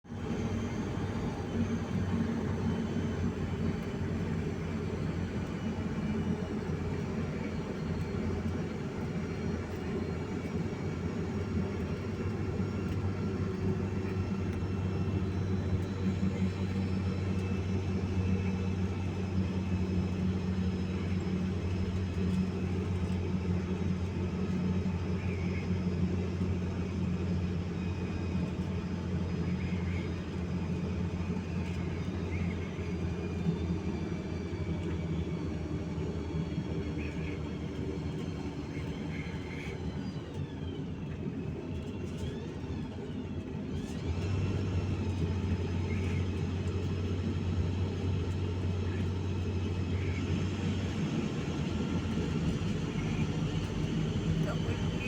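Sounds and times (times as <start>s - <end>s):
steady low drone: 0.0s - 55.0s.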